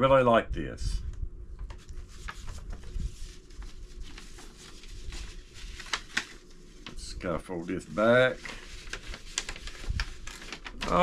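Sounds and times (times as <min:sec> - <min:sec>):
paper rustling: 0:01.6 - 0:11.0.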